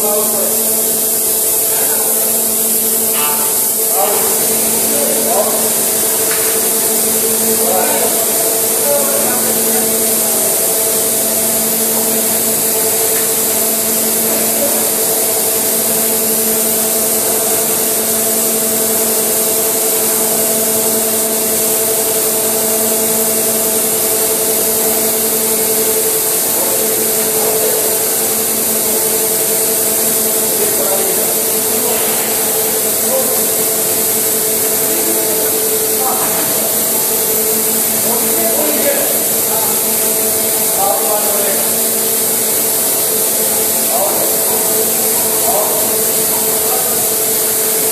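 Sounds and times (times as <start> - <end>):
machinery hiss: 0.0 - 47.9
machinery hum: 0.0 - 47.9.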